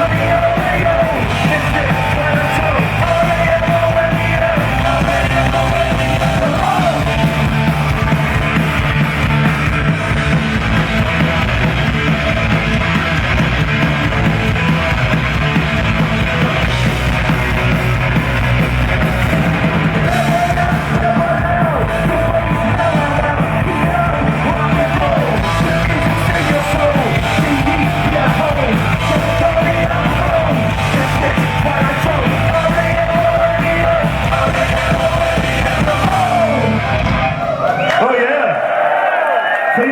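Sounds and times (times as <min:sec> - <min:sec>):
bent electric guitar lead line: 0:00.0 - 0:37.8
punk rock band playing loudly: 0:00.0 - 0:37.9.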